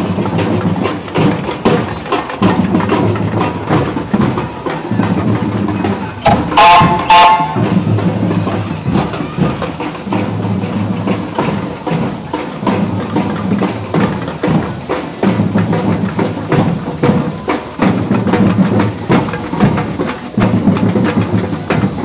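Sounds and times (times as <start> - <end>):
drum beat: 0.0 - 22.0.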